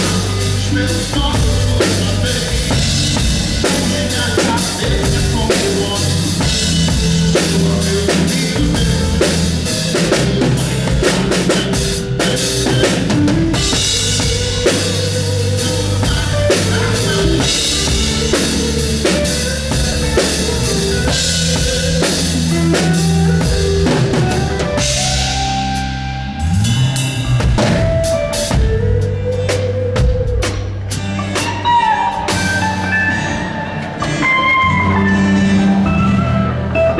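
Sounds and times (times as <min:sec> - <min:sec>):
bass: 0:00.0 - 0:36.9
drum kit: 0:00.0 - 0:36.9.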